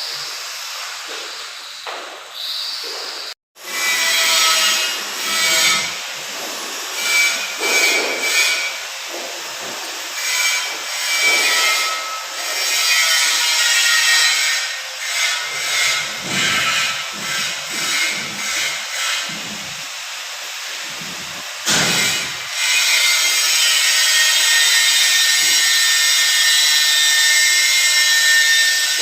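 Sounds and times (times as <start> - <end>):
hand tool rasping on hard surface: 3.6 - 29.0.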